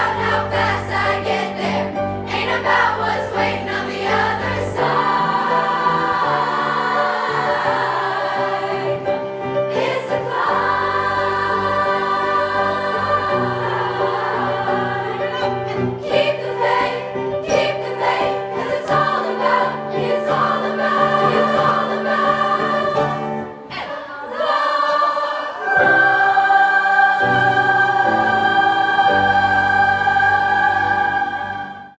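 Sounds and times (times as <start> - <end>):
choir singing: 0.0 - 32.0.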